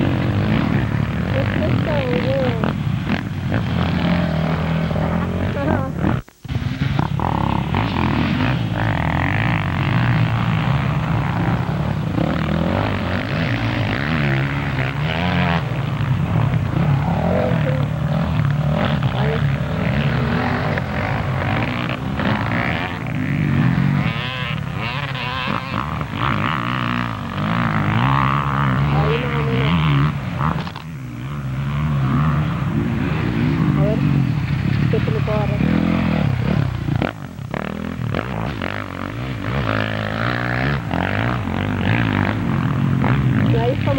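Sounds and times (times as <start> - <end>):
motocross bikes revving: 0.0 - 43.9.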